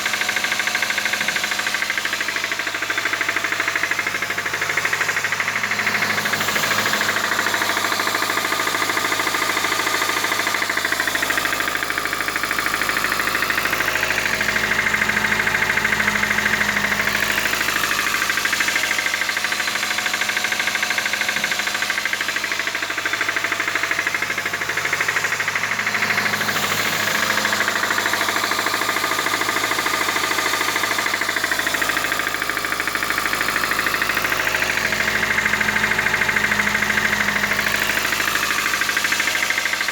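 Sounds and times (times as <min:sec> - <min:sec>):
petrol engine knocking: 0:00.0 - 0:39.9.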